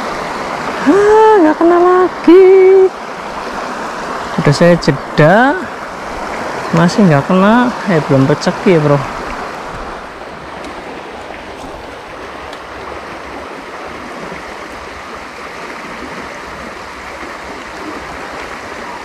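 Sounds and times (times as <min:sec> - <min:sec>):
river flowing over stones: 0:00.0 - 0:19.0.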